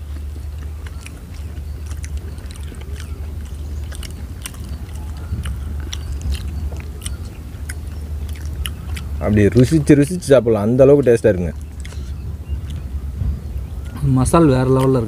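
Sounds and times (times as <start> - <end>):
mouth clicks and smacks: 0.0 - 14.0
low rumble: 0.0 - 15.0
people chewing food: 0.0 - 15.0.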